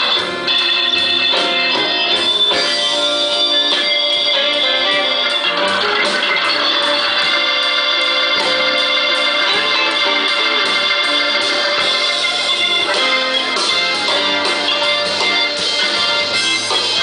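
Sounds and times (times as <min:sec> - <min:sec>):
bass line: 0:00.0 - 0:17.0
live band playing: 0:00.0 - 0:17.0
organ-like keyboard lead: 0:00.0 - 0:17.0.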